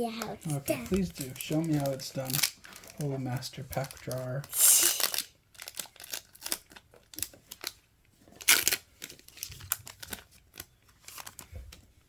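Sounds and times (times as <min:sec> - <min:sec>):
foil wrapper crinkling: 0:00.2 - 0:11.6.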